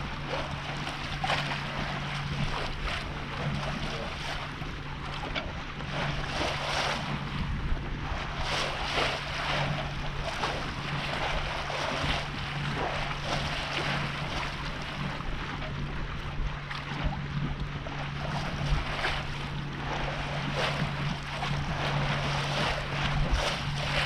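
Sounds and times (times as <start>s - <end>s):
steady low hum: 0.0s - 24.0s
water splashing along boat hull: 0.0s - 24.0s
wind rumbling on microphone: 0.0s - 24.0s.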